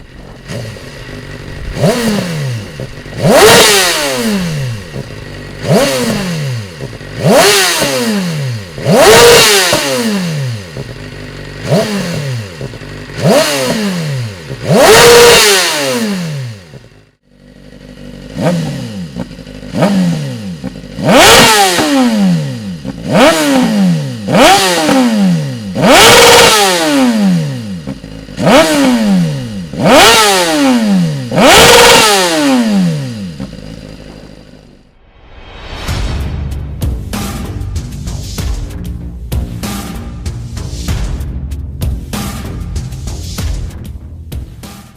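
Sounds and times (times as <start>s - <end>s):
motorcycle engine revving: 0.0s - 35.0s, 36.8s - 44.9s.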